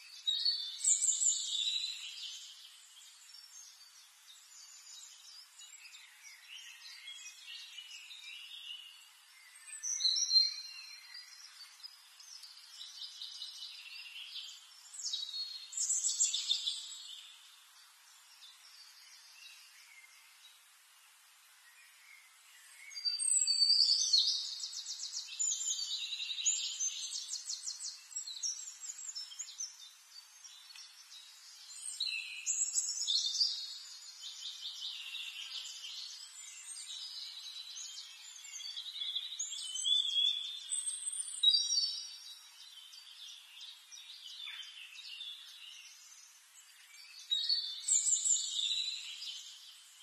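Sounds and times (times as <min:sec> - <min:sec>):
faint steady hiss: 0:00.0 - 0:50.0
small birds chirping and trilling: 0:00.0 - 0:50.0.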